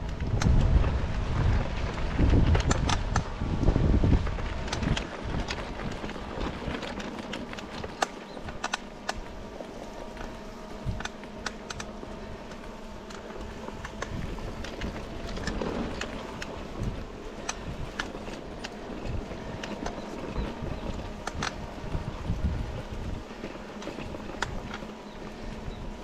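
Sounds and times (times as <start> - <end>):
bike clicks and rattles: 0.0 - 26.0
bike rolling over rough trail: 0.0 - 26.0
wind rumble on microphone: 0.0 - 26.0.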